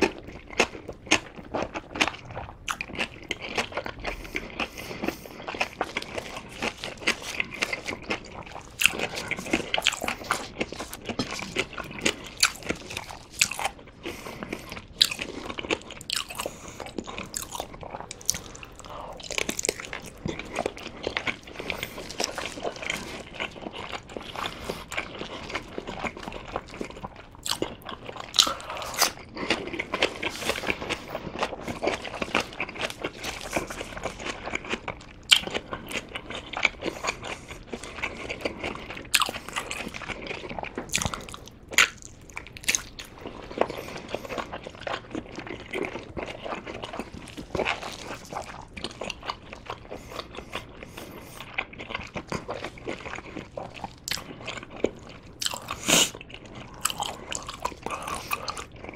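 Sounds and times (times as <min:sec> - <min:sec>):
person chewing sticky food: 0:00.0 - 0:58.9.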